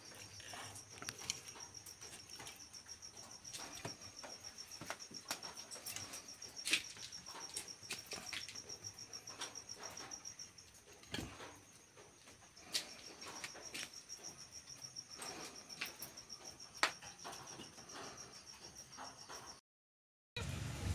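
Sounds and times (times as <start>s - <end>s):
cricket chirping: 0.0s - 19.6s.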